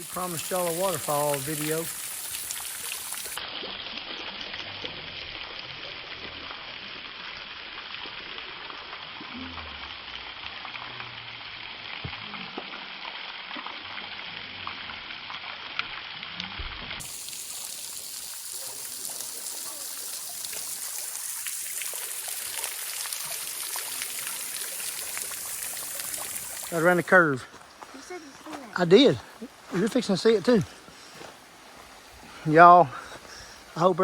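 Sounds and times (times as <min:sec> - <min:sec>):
running water hiss: 0:00.0 - 0:16.2, 0:17.0 - 0:34.0.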